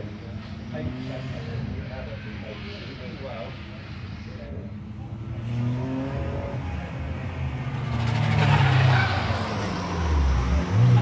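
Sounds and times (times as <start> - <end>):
racing car engines: 0.0 - 11.0.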